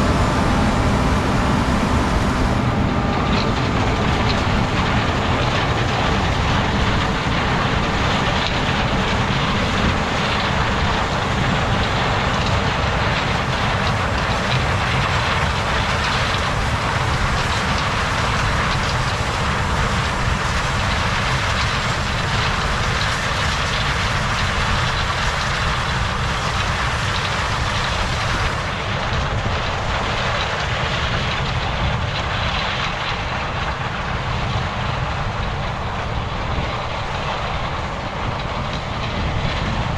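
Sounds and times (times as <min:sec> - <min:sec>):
vehicle running rumble: 0:00.0 - 0:39.9.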